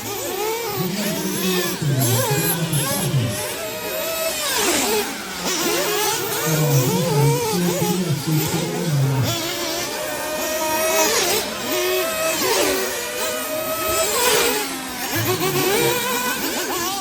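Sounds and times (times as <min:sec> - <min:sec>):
model buggy engines whining: 0:00.0 - 0:17.0.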